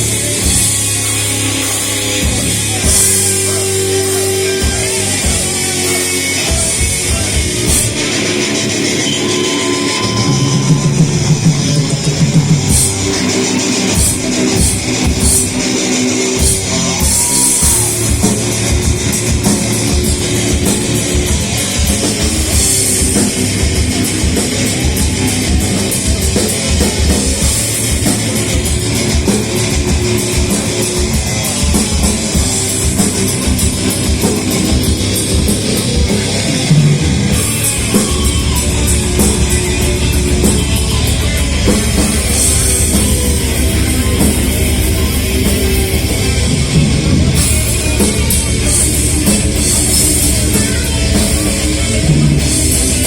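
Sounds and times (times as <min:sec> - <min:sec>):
heavy metal band playing live: 0:00.0 - 0:53.0.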